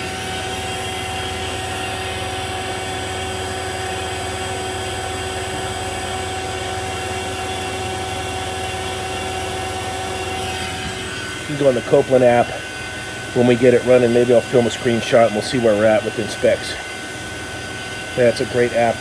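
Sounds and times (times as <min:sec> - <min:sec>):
vacuum pump humming: 0:00.0 - 0:19.0.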